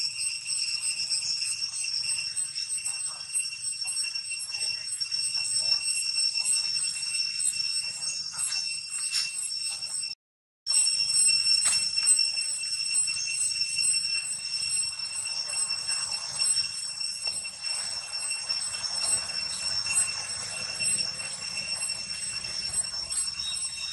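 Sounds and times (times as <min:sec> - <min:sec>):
high-pitched insect drone: 0:00.0 - 0:23.9.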